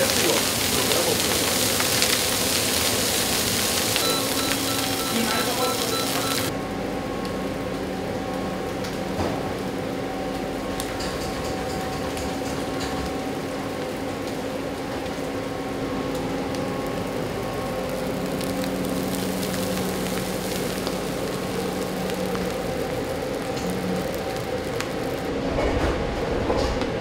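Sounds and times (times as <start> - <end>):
stir-fry machine humming: 0.0 - 25.4
low machine tone: 3.6 - 27.0.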